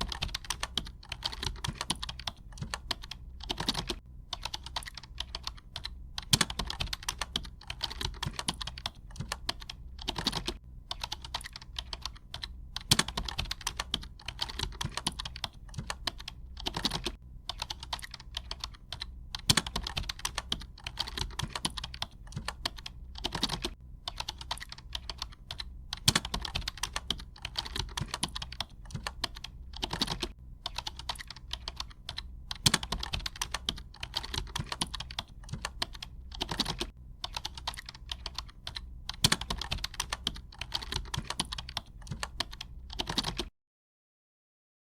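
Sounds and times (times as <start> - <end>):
computer keyboard typing: 0.0 - 43.5.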